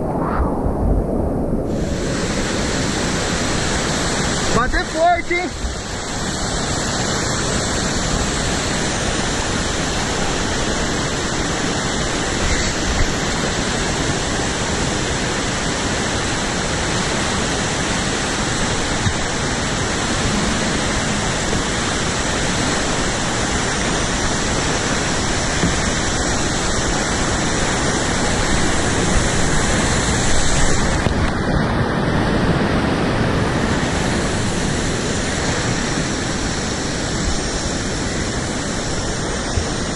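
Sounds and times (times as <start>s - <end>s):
rush of whitewater: 0.3s - 39.9s.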